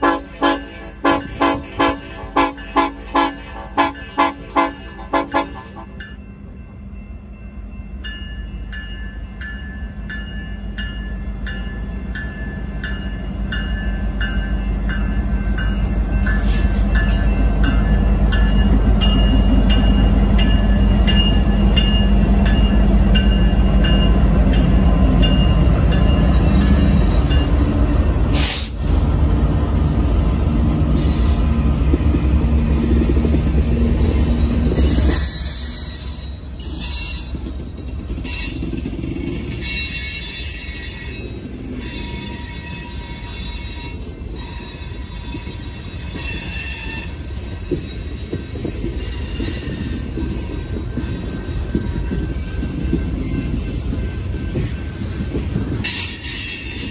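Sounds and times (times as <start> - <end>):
diesel locomotive engines humming: 0.0 - 56.9
train wheels on rails: 0.0 - 56.9.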